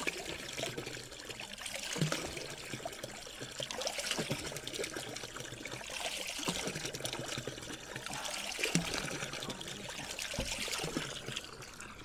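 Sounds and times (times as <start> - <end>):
water splashing from fountain spout: 0.0 - 12.0.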